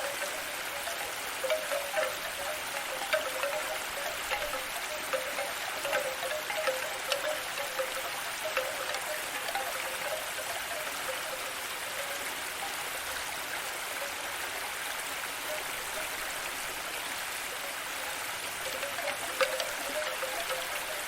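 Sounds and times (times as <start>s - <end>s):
flowing water hiss: 0.0s - 21.0s.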